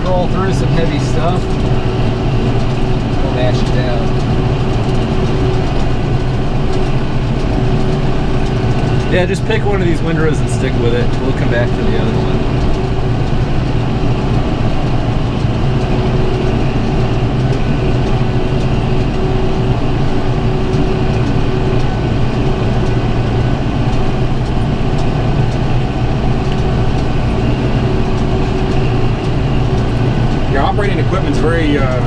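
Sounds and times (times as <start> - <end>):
tractor engine from inside cab: 0.0 - 32.0.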